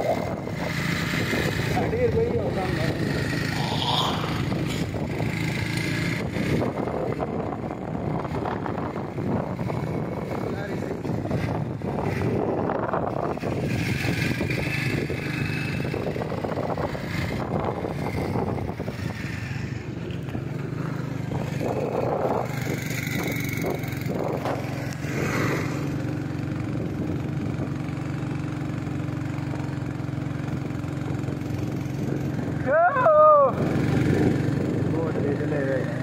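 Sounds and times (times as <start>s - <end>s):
motorcycle engine humming: 0.0s - 36.0s
wind and road noise: 0.0s - 36.0s.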